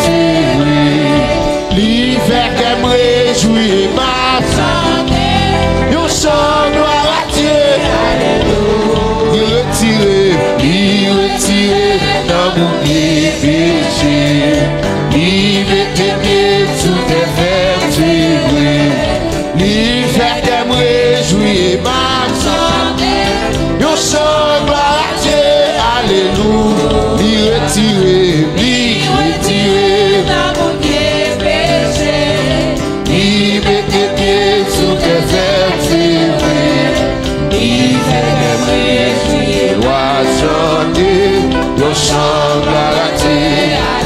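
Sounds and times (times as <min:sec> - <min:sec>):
instrumental accompaniment: 0:00.0 - 0:44.0
voices singing praise song: 0:00.0 - 0:44.0.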